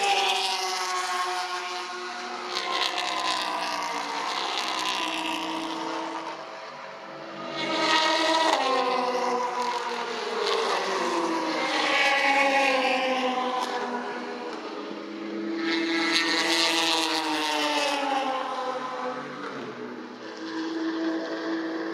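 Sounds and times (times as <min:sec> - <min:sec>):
race car engines passing: 0:00.0 - 0:21.9.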